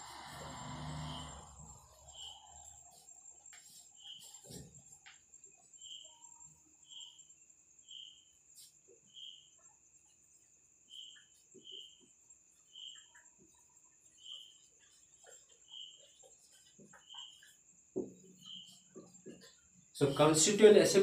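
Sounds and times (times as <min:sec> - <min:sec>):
faint crickets trilling: 0:00.0 - 0:21.0.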